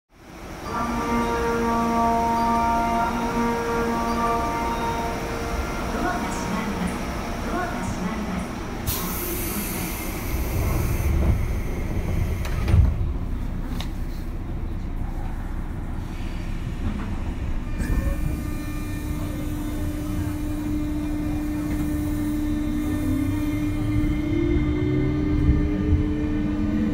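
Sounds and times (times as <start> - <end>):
train rumbling on rails: 0.1 - 26.9.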